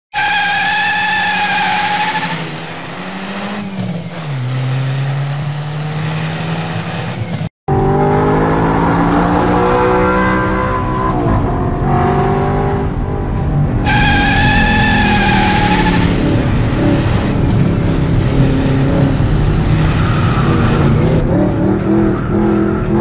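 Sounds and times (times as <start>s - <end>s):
car engine revving: 0.2s - 23.0s.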